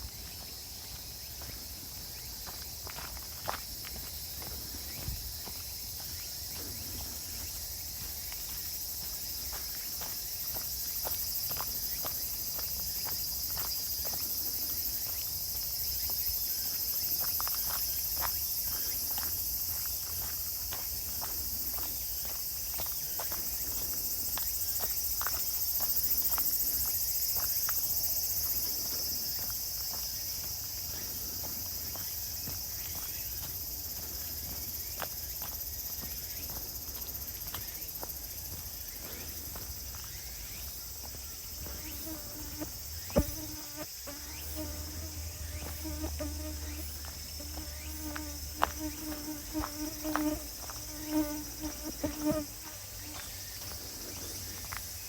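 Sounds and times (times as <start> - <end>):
footsteps on woodland path: 0.0 - 55.0
insects chirring: 0.0 - 55.0.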